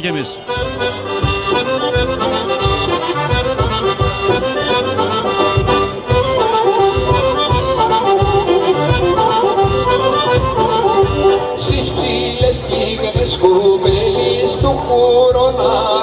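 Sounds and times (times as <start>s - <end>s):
steady low beat: 0.0s - 14.9s
accordion folk dance tune: 0.0s - 16.0s.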